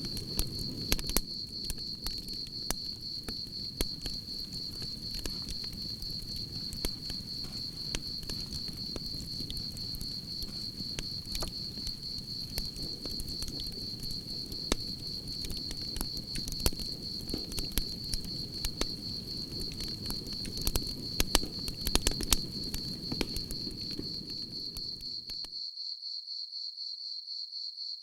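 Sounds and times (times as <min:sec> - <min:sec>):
campfire crackling and popping: 0:00.0 - 0:25.5
crickets chirping: 0:00.0 - 0:28.0.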